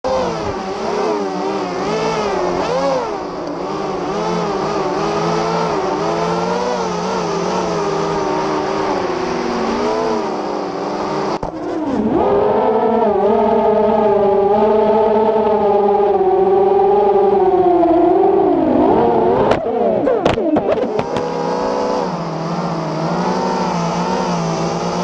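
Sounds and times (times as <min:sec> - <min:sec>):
quadcopter motors whining: 0:00.1 - 0:15.4, 0:16.2 - 0:25.0.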